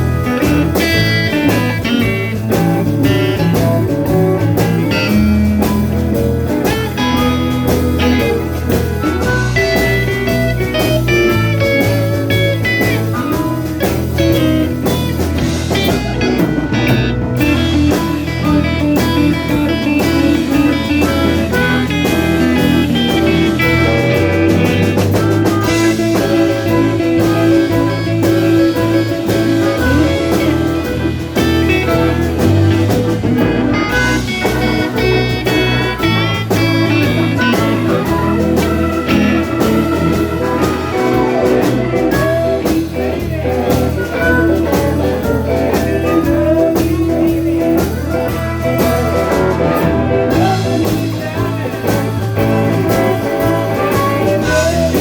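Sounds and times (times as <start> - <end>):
blues band playing: 0.0 - 55.0.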